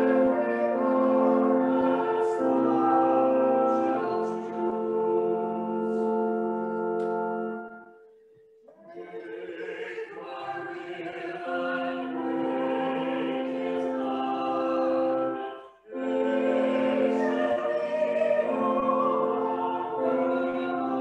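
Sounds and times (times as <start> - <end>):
choir singing held notes: 0.0 - 21.0.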